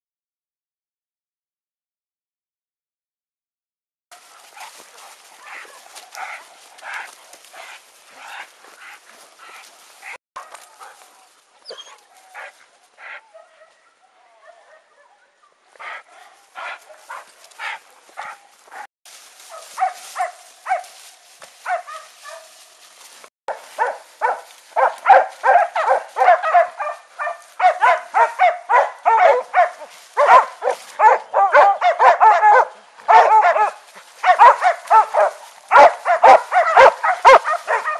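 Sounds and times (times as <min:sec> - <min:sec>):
dogs barking and yelping: 0:04.2 - 0:11.0, 0:11.6 - 0:18.9, 0:19.5 - 0:21.0, 0:21.6 - 0:22.6, 0:23.5 - 0:37.9.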